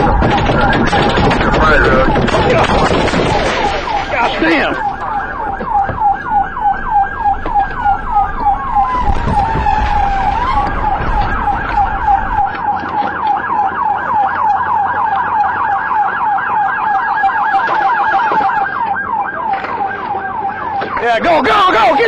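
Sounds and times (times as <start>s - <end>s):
engine and road rumble: 0.0s - 22.0s
police siren fast yelp: 0.0s - 22.0s
siren slow wail: 0.0s - 22.0s.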